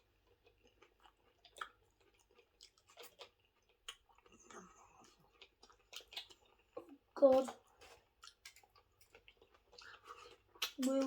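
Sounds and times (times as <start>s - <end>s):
person chewing with wet mouth clicks: 0.2s - 11.0s.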